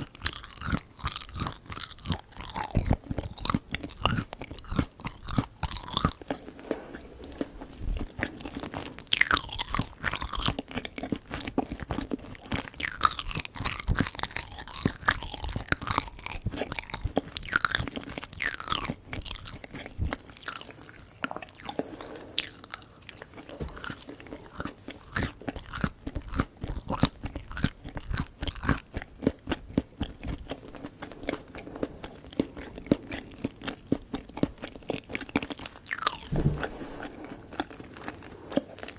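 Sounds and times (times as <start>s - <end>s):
chewing crunchy sweets: 0.0s - 38.9s.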